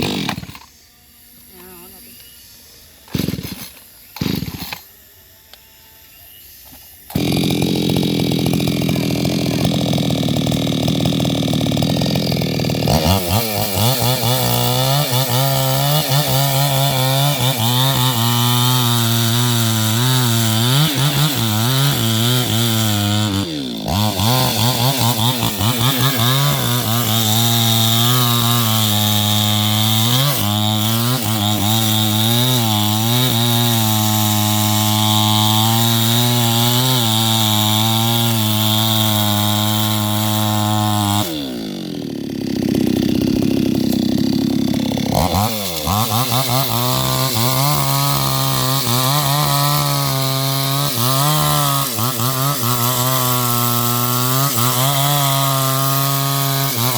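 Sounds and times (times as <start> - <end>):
chainsaw running: 0.0 - 56.9.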